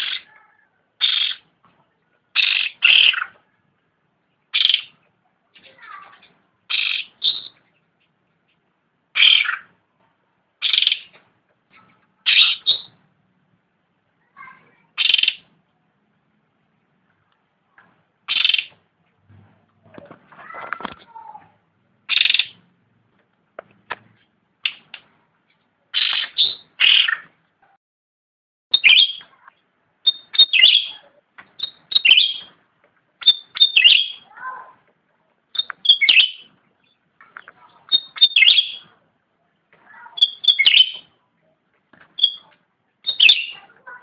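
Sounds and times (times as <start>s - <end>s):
songbird chirping: 0.0s - 27.5s, 28.7s - 44.0s.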